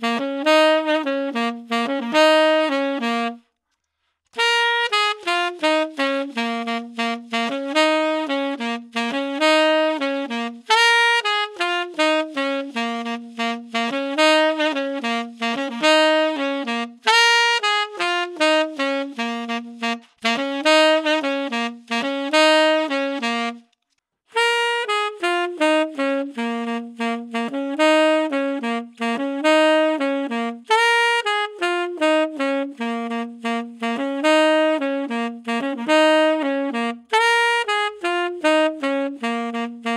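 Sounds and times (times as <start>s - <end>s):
tenor saxophone fast jazz line: 0.0s - 3.5s, 4.4s - 39.9s.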